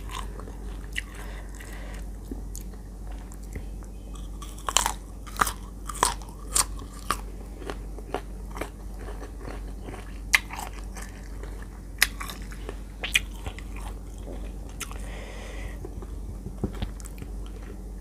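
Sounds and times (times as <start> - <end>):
crunchy chewing of mango: 0.0 - 18.0.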